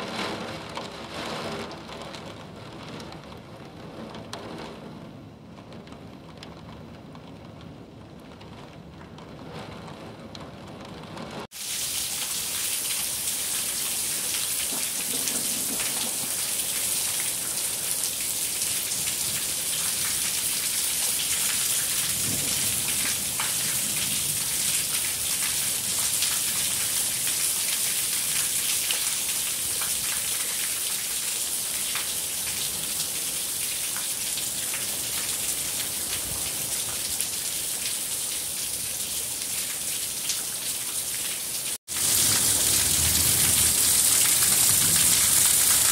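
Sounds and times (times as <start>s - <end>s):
heavy rain on standing water: 0.0s - 45.9s.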